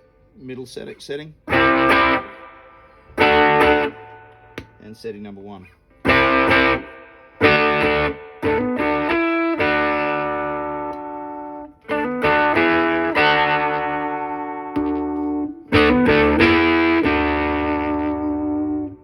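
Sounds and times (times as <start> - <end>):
electric guitar chords strummed: 1.5 - 4.8, 6.0 - 19.0.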